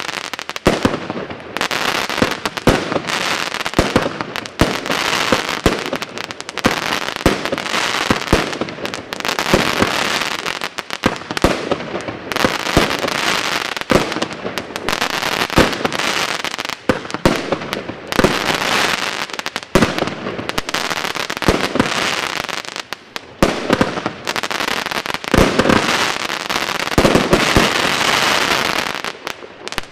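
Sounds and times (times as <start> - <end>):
firework shots crackling: 0.0 - 29.9.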